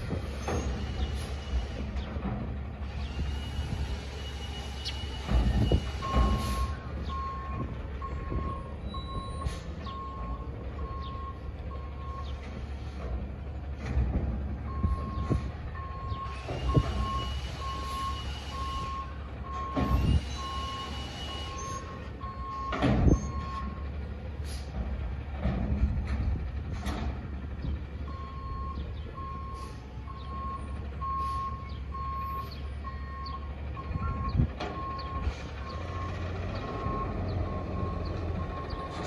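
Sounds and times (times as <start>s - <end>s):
truck engine running: 0.0s - 39.0s
truck backup alarm beeping: 2.8s - 13.0s, 14.6s - 24.7s, 26.6s - 39.0s.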